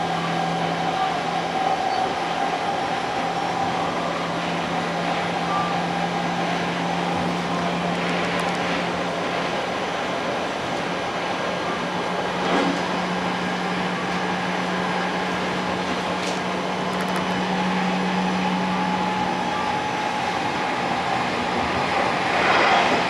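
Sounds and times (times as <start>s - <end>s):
moving train rumble: 0.0s - 23.0s.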